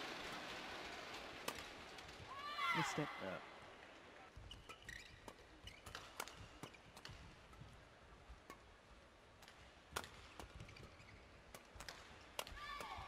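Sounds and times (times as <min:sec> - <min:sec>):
rackets hitting shuttlecock: 0:00.1 - 0:02.3, 0:04.4 - 0:13.0.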